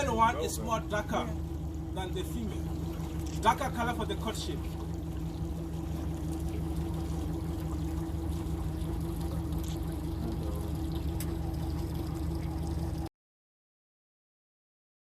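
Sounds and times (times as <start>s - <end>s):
boat motor running: 0.0s - 13.1s
water splashing along hull: 0.0s - 13.1s.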